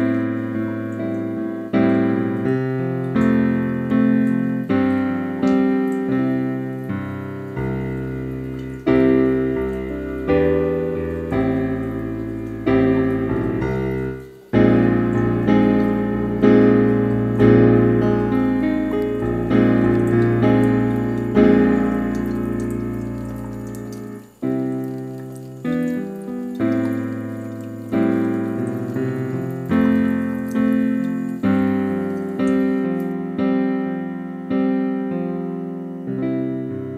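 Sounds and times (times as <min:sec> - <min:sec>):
cheerful solo piano piece: 0:00.0 - 0:36.9.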